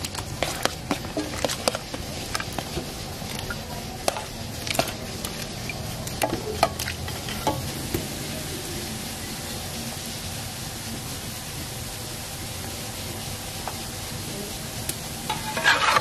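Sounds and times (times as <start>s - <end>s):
oil sizzling: 0.0s - 16.0s.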